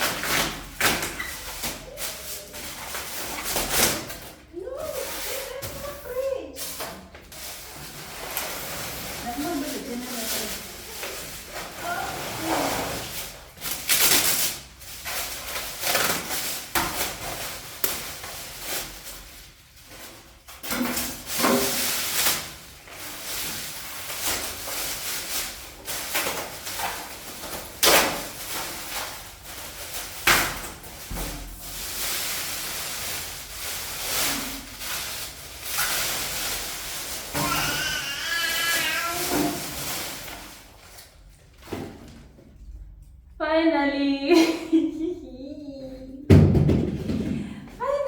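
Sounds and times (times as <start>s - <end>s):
packaging scraping and rustling: 0.0s - 42.3s.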